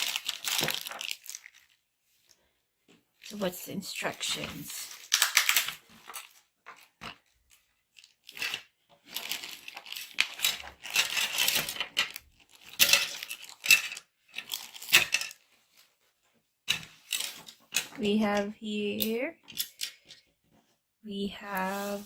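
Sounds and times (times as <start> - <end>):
packaging rustling and crinkling: 0.0 - 18.1.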